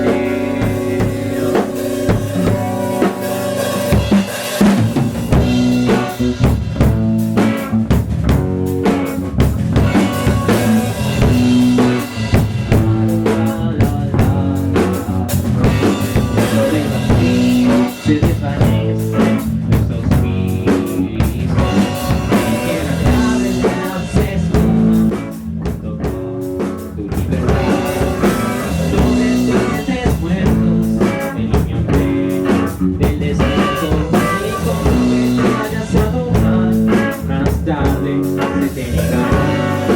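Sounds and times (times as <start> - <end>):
drum kit: 0.0 - 39.9
rock band playing: 0.0 - 39.9.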